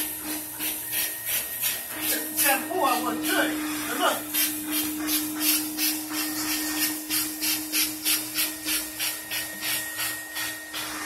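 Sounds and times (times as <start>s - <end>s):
shampoo tool rasping on upholstery: 0.0s - 11.0s
vacuum motor running: 0.0s - 11.0s.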